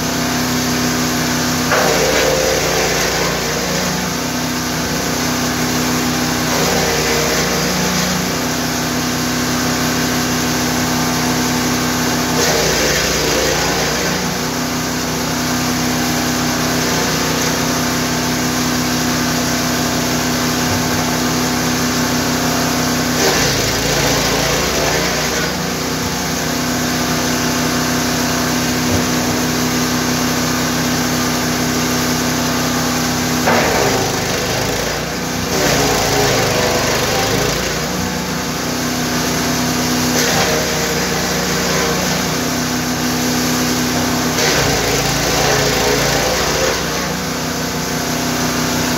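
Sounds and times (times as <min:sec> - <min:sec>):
wood chipper engine running: 0:00.0 - 0:48.9
rough noisy chipping: 0:00.5 - 0:48.9.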